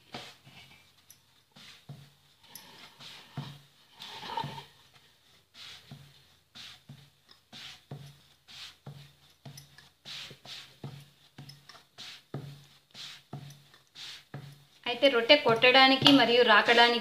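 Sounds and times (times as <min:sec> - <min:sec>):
hand rubbing dough on board: 0:00.0 - 0:17.0.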